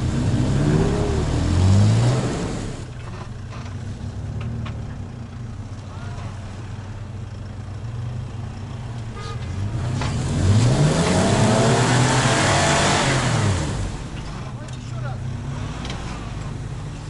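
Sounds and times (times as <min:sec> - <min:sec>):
vehicle engines revving: 0:00.0 - 0:17.0.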